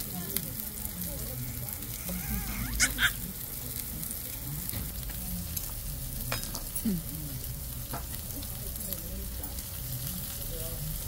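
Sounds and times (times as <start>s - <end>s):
crackling sizzling hiss: 0.0s - 11.0s
distant voices murmuring: 0.0s - 11.0s.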